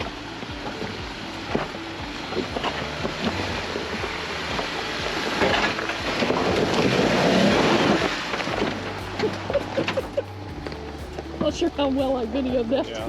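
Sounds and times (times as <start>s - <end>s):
vehicle engine labouring: 0.0s - 13.0s.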